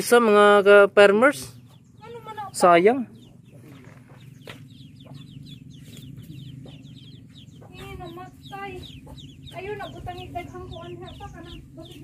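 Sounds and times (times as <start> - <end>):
chicks peeping: 0.1 - 12.0
hen clucking: 1.2 - 12.0.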